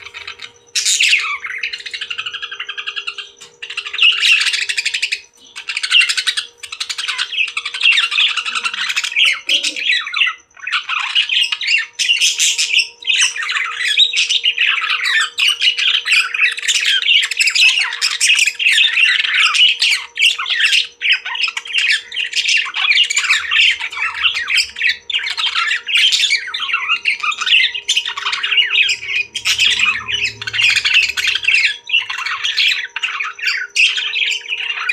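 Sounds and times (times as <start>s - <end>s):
faint steady hum: 0.0s - 34.9s
parrots chirping and chattering: 0.0s - 34.9s.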